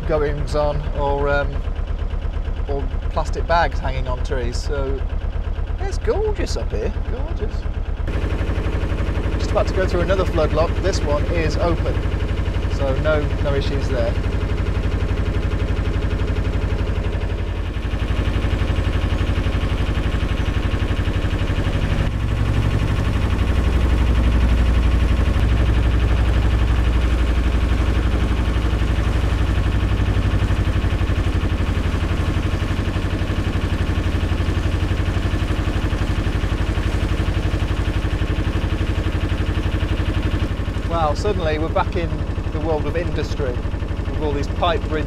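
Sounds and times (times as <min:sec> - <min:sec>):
boat diesel engine running: 0:00.0 - 0:45.0.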